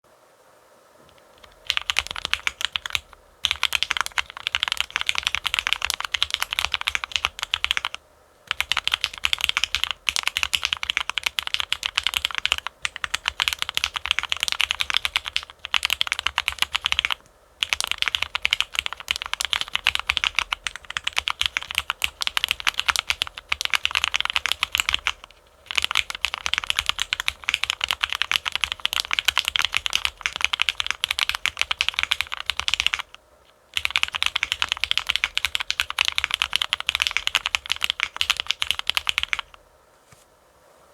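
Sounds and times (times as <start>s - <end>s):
fast typing on mechanical keyboard: 1.4s - 39.6s.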